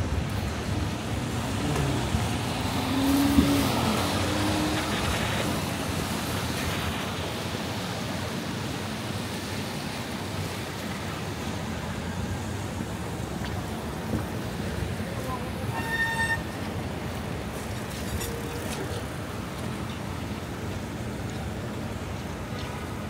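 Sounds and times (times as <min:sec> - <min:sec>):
low rumble of cars: 0:00.0 - 0:23.0
tyres hissing on wet pavement: 0:00.0 - 0:23.0.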